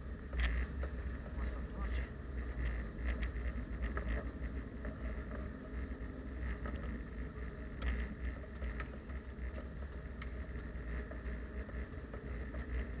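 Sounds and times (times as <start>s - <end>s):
car engine and tyres rumbling: 0.0s - 13.0s
faint irregular ticks: 0.0s - 13.0s.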